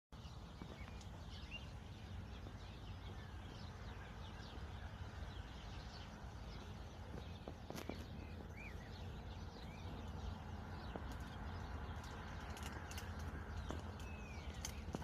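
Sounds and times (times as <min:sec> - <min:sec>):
low outdoor rumble: 0:00.2 - 0:15.0
small birds chirping: 0:00.2 - 0:15.0.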